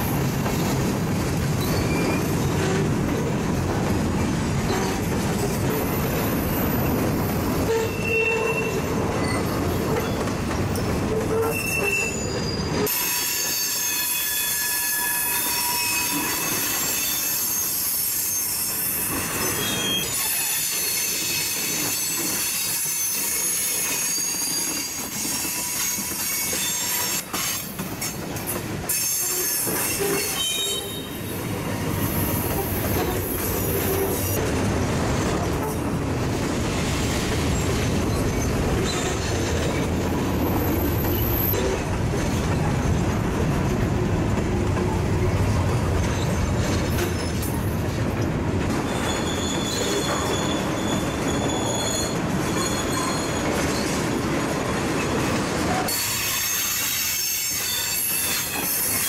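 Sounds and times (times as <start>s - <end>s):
freight train cars rolling: 0.0s - 59.0s
steel wheels squealing: 1.5s - 2.9s, 4.6s - 28.2s, 28.9s - 34.4s, 37.4s - 42.7s, 45.2s - 47.7s, 48.8s - 54.2s, 55.0s - 59.0s.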